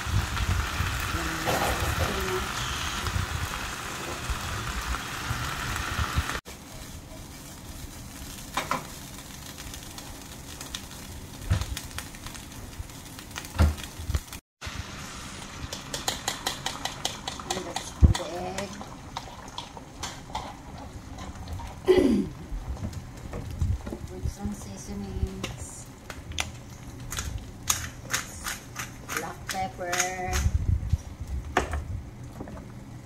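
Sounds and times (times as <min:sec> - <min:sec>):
eggs crackling in pan: 0:00.0 - 0:14.4, 0:15.4 - 0:30.4
sausage sizzling: 0:00.0 - 0:29.2
spinach sizzling in pan: 0:00.0 - 0:30.3.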